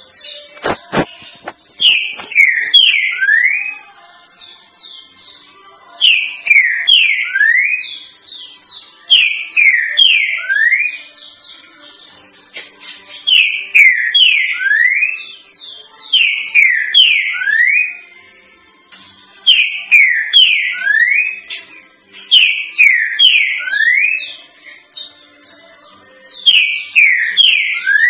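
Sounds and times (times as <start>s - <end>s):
bird whistling song: 1.8s - 5.4s, 6.0s - 18.1s, 19.5s - 28.0s.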